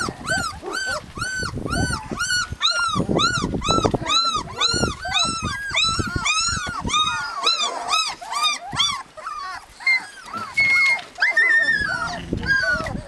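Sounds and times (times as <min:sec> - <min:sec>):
puppies whining: 0:00.0 - 0:13.0.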